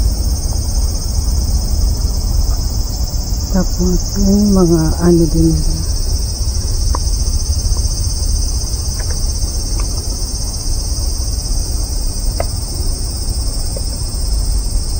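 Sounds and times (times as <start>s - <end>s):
cicadas droning: 0.0s - 14.9s
low wind rumble on microphone: 0.0s - 14.9s.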